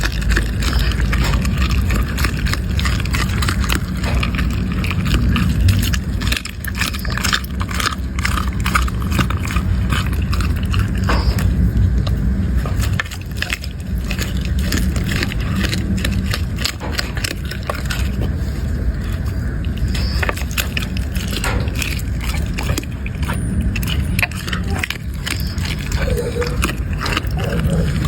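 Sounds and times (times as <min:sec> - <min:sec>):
dog crunching food: 0:00.0 - 0:28.0
low rumble: 0:00.0 - 0:28.0.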